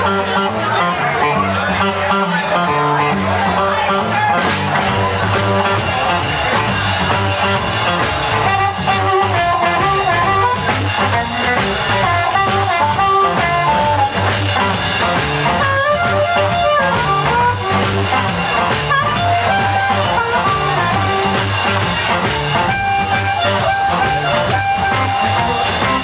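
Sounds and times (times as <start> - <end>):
blues harmonica wailing: 0.0 - 26.0
electric guitars: 0.0 - 26.0
drums with steady beat: 3.3 - 26.0.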